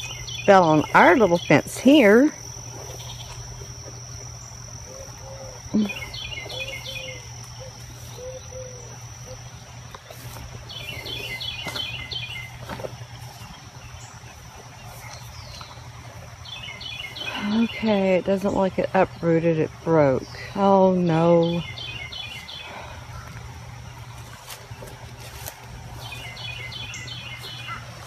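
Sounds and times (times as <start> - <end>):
insect drone: 0.0 - 28.0
low steady hum: 0.0 - 28.0
songbird chirping: 0.0 - 28.0.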